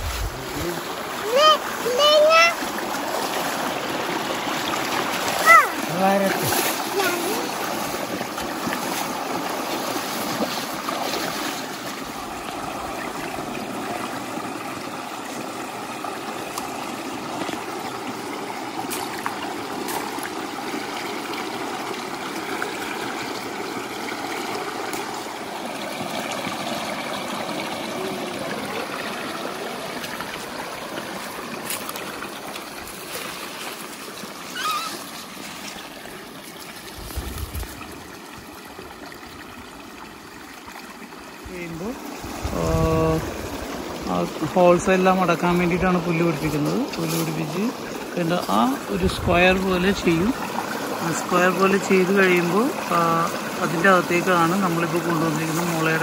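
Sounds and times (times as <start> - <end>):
water streaming and trickling: 0.0 - 56.0.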